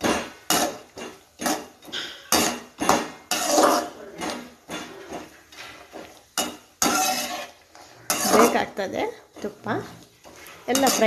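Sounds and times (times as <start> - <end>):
nuts frying in fat: 0.0 - 11.0
spoon scraping and knocking pan: 0.0 - 11.0.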